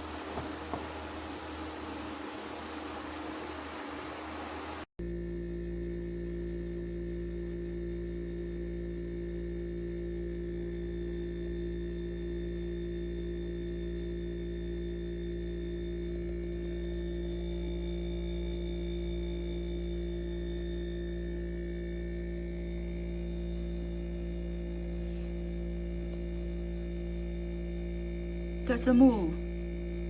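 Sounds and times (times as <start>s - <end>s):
ice cream maker electric hum: 0.0s - 30.0s.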